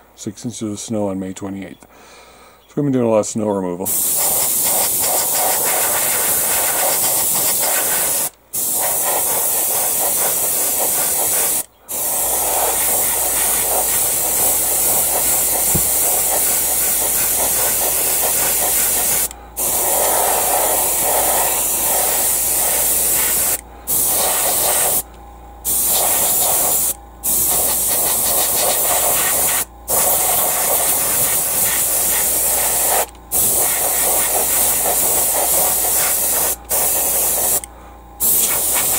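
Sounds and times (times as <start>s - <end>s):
airbrush spraying hiss: 3.9s - 38.9s.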